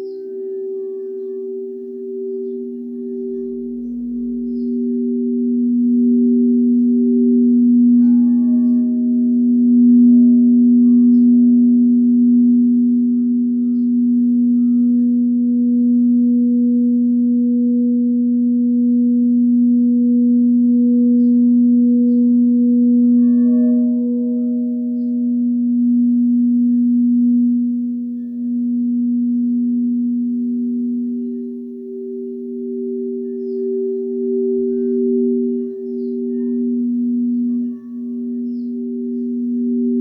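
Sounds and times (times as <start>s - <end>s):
singing bowls ringing: 0.0s - 40.0s.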